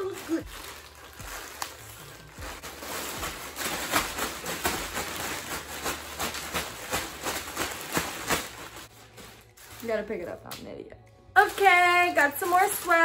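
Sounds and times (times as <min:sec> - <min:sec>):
plastic bag crinkling: 0:00.0 - 0:10.5, 0:11.4 - 0:13.0.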